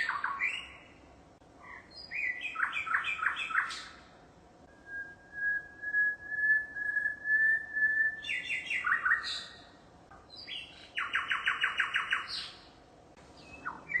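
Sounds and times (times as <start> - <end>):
bird singing: 0.0 - 1.0, 1.6 - 4.1, 4.7 - 14.0.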